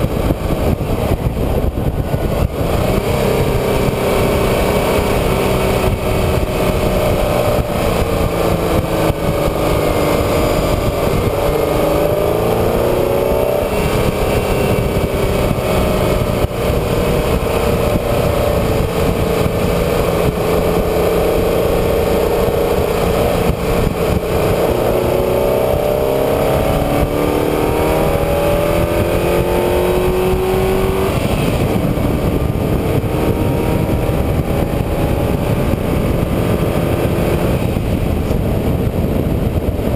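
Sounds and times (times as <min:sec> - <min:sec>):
road and wind noise: 0:00.0 - 0:39.9
vehicle engine revving under load: 0:00.0 - 0:39.9.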